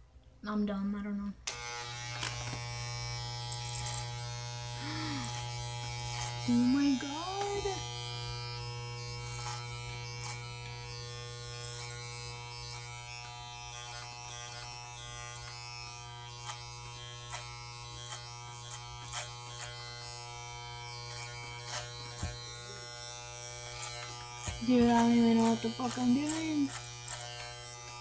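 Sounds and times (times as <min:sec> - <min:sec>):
electric hair clippers buzzing: 0:01.4 - 0:28.0.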